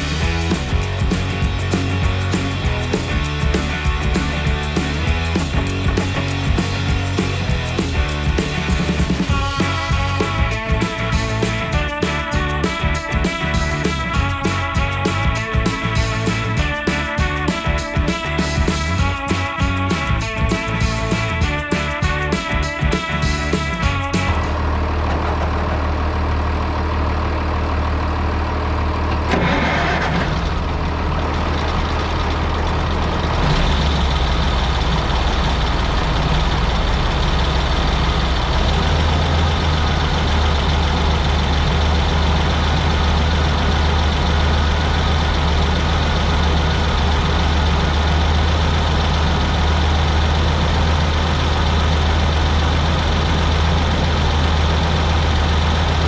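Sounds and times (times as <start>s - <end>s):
farm machinery engine running: 0.0s - 56.0s.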